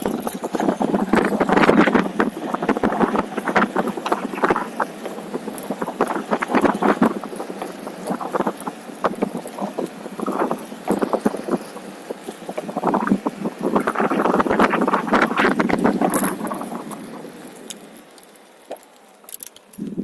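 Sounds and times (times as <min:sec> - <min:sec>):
wind on microphone: 0:00.0 - 0:18.1, 0:19.8 - 0:20.0
board wheel crackling over ground: 0:00.0 - 0:20.0.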